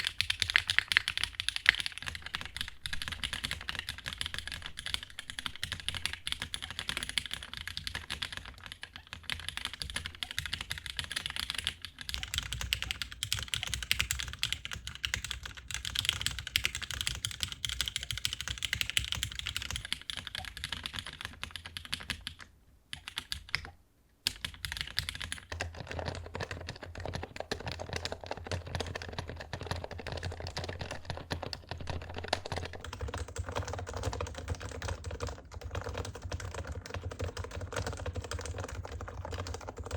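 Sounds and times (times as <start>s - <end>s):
mechanical keyboard typing: 0.0s - 23.7s, 24.3s - 39.9s.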